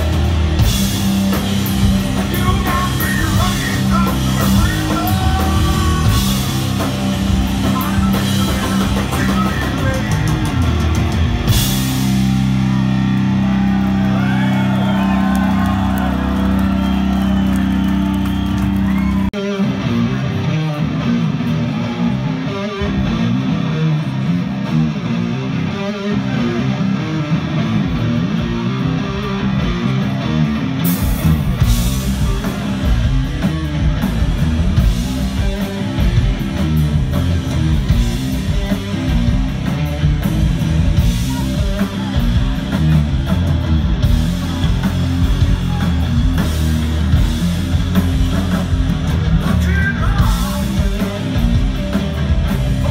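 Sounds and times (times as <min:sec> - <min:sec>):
distorted electric guitar riffing: 0:00.0 - 0:52.9.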